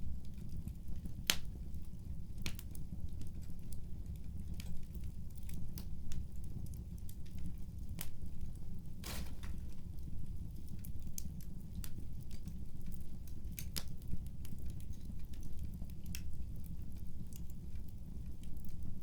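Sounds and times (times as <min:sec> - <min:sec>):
wood fire low rumble: 0:00.0 - 0:19.0
fire crackling pops: 0:00.2 - 0:19.0.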